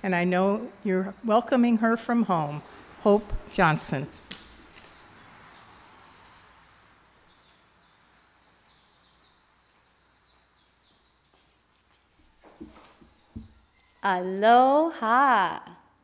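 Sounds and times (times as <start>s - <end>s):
faint birds chirping: 0.0s - 15.6s.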